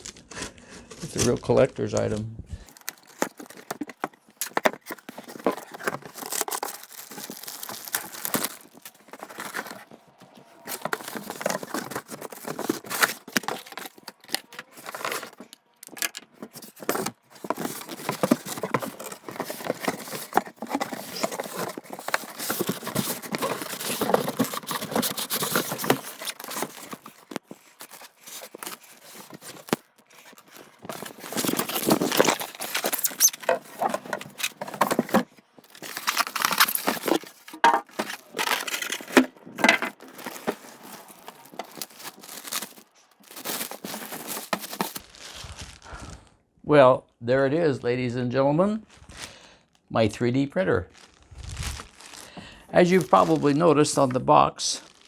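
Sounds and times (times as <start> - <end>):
cardboard and plastic tearing: 0.0 - 1.6, 2.7 - 46.3, 48.9 - 49.5, 50.9 - 54.2, 54.8 - 55.0.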